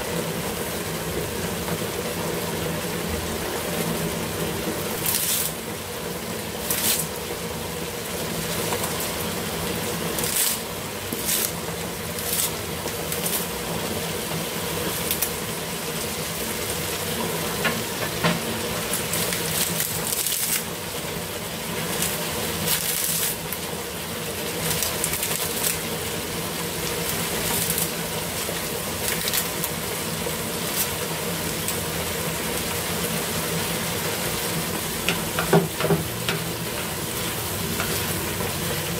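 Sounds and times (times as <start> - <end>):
stew bubbling and sizzling in pan: 0.0 - 38.9.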